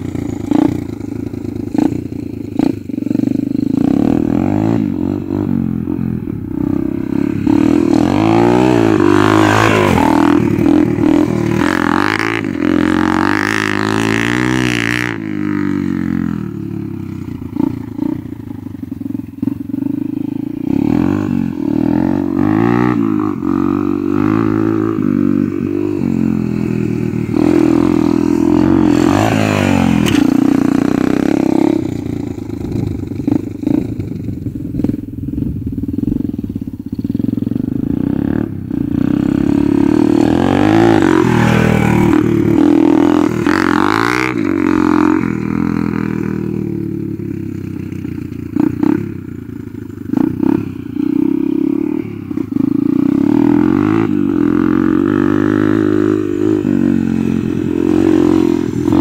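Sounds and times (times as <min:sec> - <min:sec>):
dirt bike engine revving: 0:00.0 - 0:34.0, 0:37.0 - 0:59.0.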